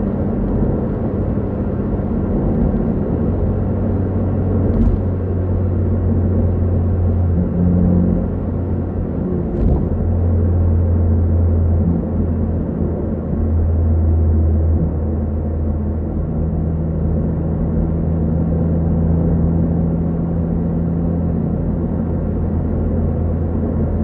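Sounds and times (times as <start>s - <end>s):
car engine droning at high revs: 0.0s - 24.0s.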